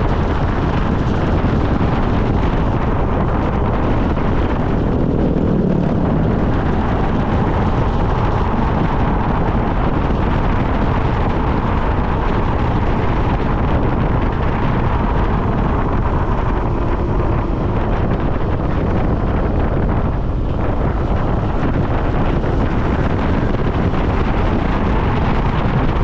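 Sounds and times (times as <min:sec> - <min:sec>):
vehicle rumble: 0:00.0 - 0:26.0
wind rushing over microphone: 0:00.0 - 0:26.0.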